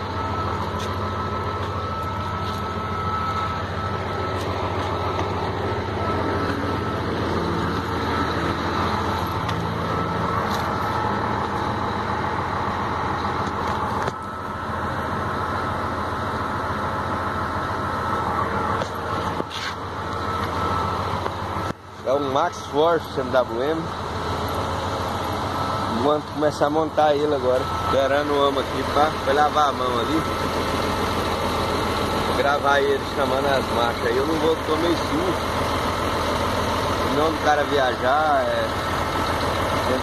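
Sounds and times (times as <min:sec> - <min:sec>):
diesel truck engine running: 0:00.0 - 0:40.0
thin constant whine: 0:00.0 - 0:40.0.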